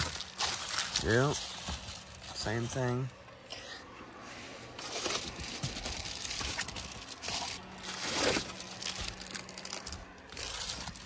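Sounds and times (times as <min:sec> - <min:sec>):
foil rustling and crackling: 0:00.0 - 0:03.2, 0:04.6 - 0:11.0.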